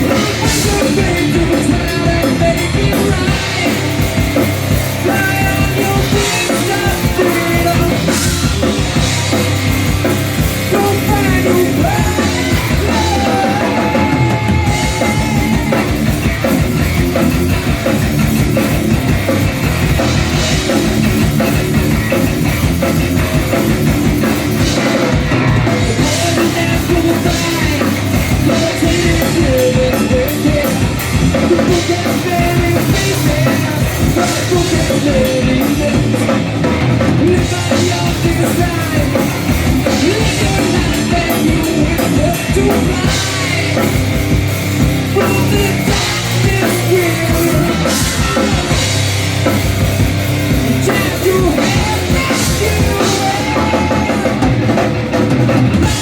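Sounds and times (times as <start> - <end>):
heavy rock band playing: 0.0 - 56.0
pounding drum kit: 0.0 - 56.0.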